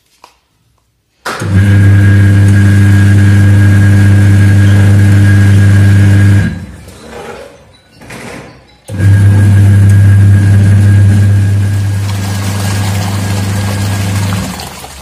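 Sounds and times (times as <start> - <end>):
washing machine motor humming: 1.4 - 7.3, 8.9 - 15.0.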